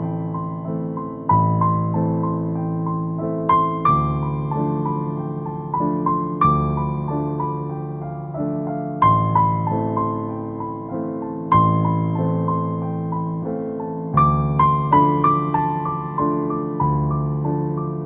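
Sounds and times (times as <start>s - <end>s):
gentle piano melody over chords: 0.0s - 18.0s.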